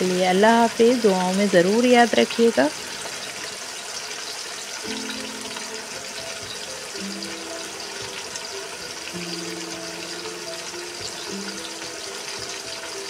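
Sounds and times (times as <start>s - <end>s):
fish sizzling in hot oil: 0.0s - 13.0s
soft background music: 0.0s - 13.0s.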